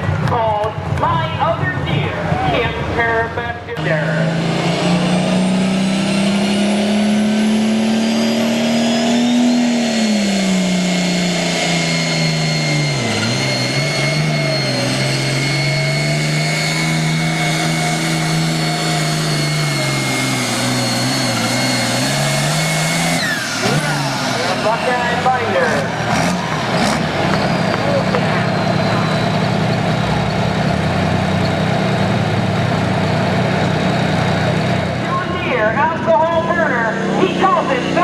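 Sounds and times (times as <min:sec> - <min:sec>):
high turbo whine: 0:00.0 - 0:38.0
tractor engine at full power: 0:00.0 - 0:38.0.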